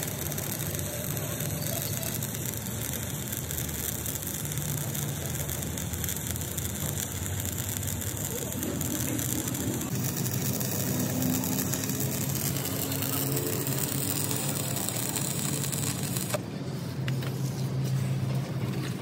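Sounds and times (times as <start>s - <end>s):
machine droning: 0.0s - 16.4s.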